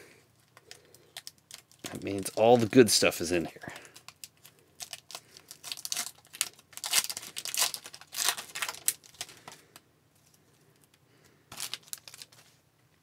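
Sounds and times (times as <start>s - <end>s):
foil wrapper crinkling and tearing: 0.4s - 9.8s, 11.5s - 12.6s.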